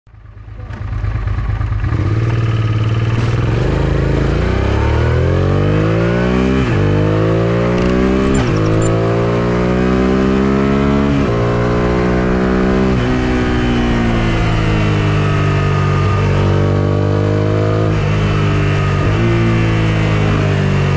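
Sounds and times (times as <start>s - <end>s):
motorcycle accelerating through gears: 0.6s - 20.9s.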